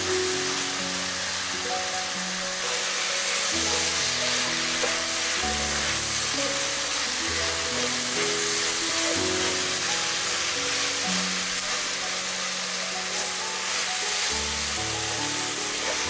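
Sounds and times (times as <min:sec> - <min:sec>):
food sizzling in a frying pan: 0:00.0 - 0:16.0
soft background music: 0:00.0 - 0:16.0.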